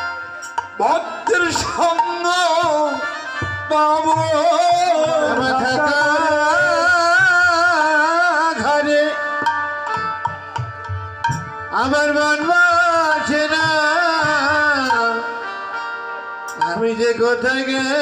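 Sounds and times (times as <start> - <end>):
man singing into a microphone: 0.0 - 10.4, 11.3 - 18.0.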